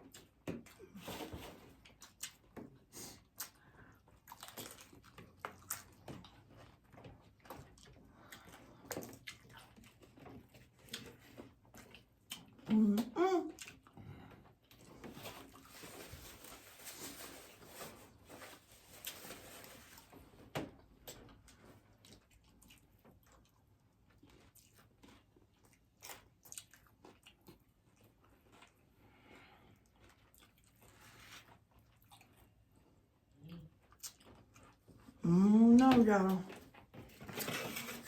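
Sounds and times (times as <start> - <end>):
crunching of tacos being chewed: 0.0 - 12.8, 13.5 - 35.2.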